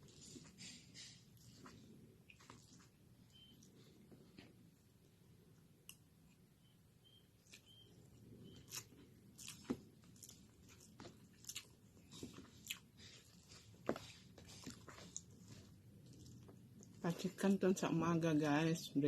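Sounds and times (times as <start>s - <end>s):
quiet chewing: 0.0s - 6.5s, 7.2s - 17.4s.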